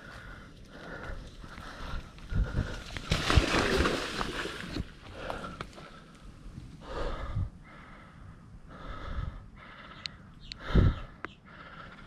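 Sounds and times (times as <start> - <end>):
man breathing hard: 0.0 - 3.1, 5.0 - 12.0.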